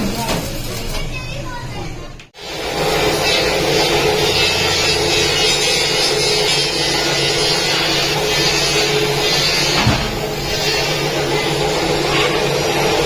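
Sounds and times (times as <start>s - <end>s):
machine running with hiss and hum: 2.4s - 13.0s.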